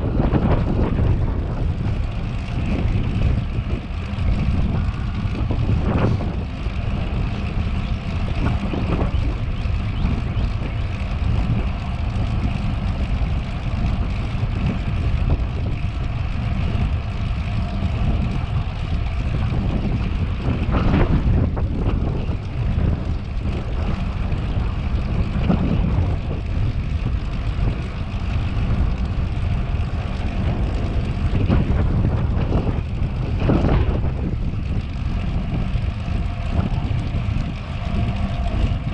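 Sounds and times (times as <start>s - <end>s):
tyre and drivetrain hum: 0.0s - 38.9s
wind rushing over microphone: 0.0s - 38.9s.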